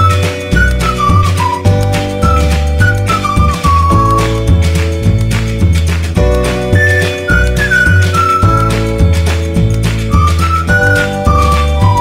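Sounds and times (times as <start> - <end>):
upbeat background music: 0.0 - 12.0
whistled melody: 0.0 - 12.0.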